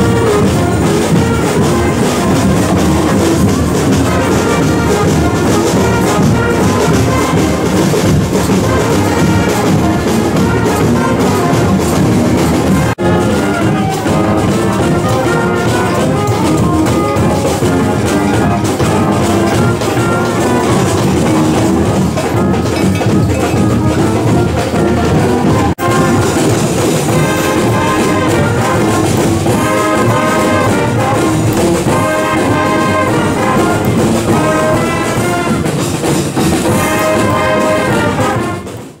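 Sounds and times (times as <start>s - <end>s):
brass band playing: 0.0s - 39.0s
snare drum: 0.0s - 39.0s.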